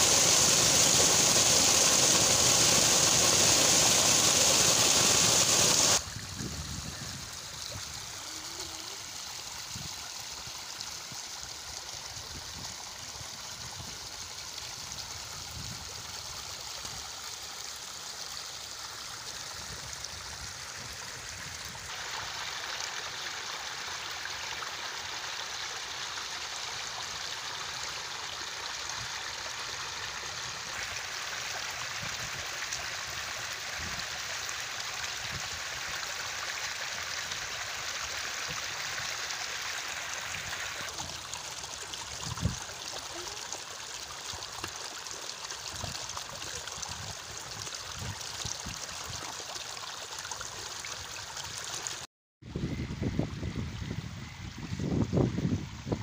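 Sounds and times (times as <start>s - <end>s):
muddy water rushing: 0.0s - 15.2s, 15.9s - 52.1s.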